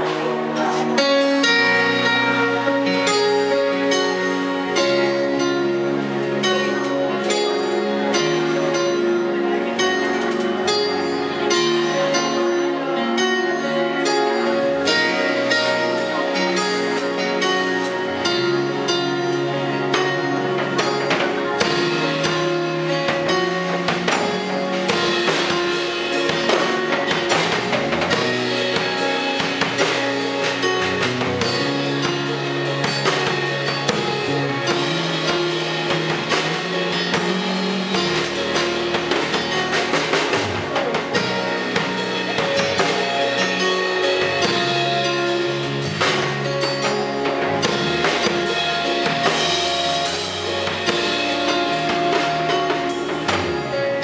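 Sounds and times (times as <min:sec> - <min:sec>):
drum kit: 0:00.0 - 0:54.0
electric bass guitar: 0:00.0 - 0:54.0
keyboards: 0:00.0 - 0:54.0.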